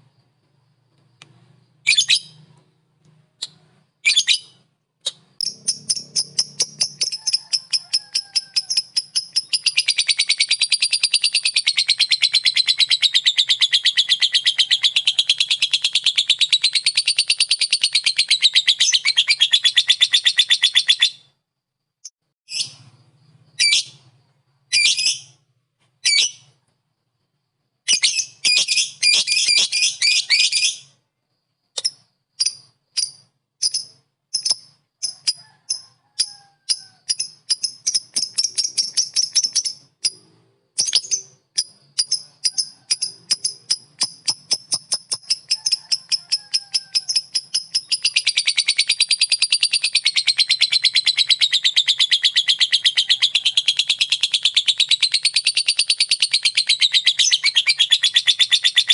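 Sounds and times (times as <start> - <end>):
lovebird chattering song: 1.8 - 2.5, 3.4 - 21.3, 23.4 - 24.1, 24.7 - 25.4, 27.9 - 31.0, 31.8 - 58.9.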